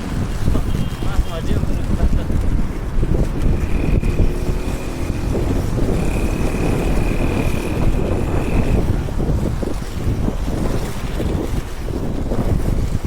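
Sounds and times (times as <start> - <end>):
skateboard wheels rolling on asphalt: 0.0 - 13.0
wind buffeting microphone: 0.0 - 13.0.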